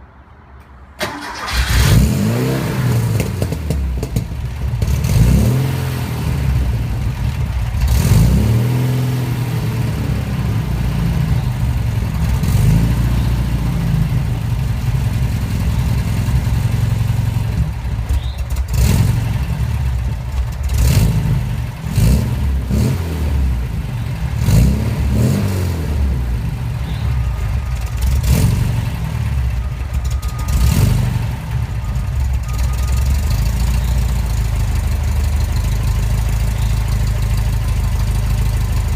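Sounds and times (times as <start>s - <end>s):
car engine revving unevenly: 1.2s - 32.6s.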